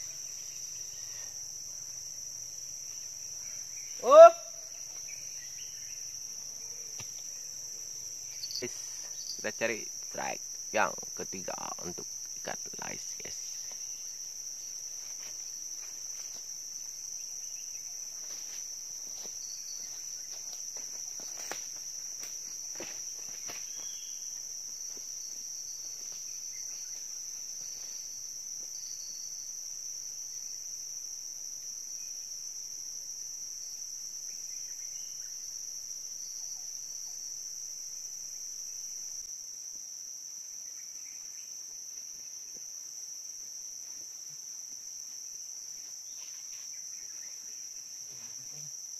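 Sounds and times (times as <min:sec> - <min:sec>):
forest insects buzzing: 0:00.0 - 0:48.9.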